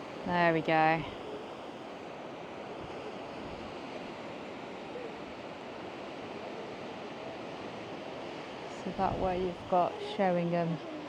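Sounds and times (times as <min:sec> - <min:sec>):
sea waves washing on shore: 0:00.0 - 0:11.0.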